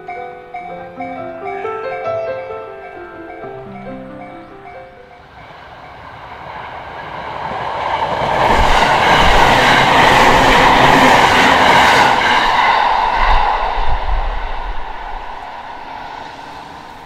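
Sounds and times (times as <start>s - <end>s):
train wheels rushing on rail: 2.8s - 17.0s.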